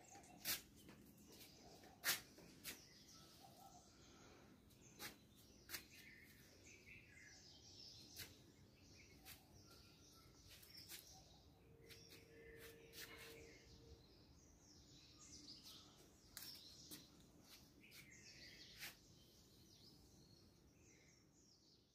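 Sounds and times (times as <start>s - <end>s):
faint birds chirping: 0.0s - 21.9s.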